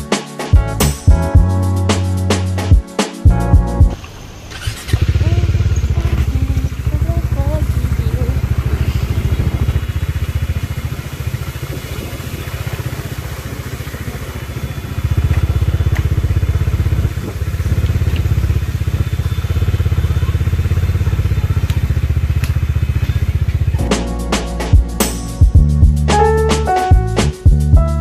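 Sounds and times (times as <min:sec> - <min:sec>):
motorcycle engine throbbing: 0:03.3 - 0:26.3.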